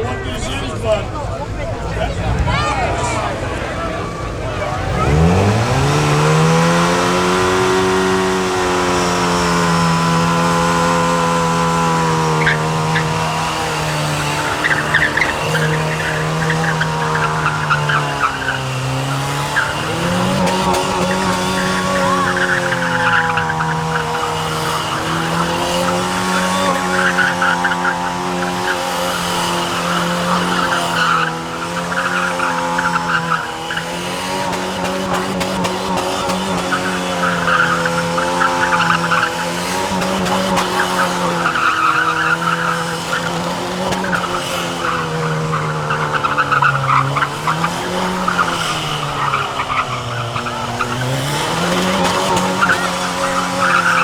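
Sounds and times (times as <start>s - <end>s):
car engine revving high: 0.0s - 54.0s
spinning tyres screeching: 0.0s - 54.0s.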